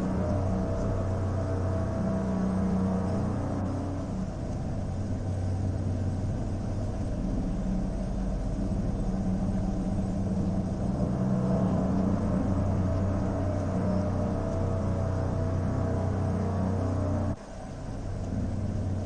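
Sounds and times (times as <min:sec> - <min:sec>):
droning ambient music: 0:00.0 - 0:19.0.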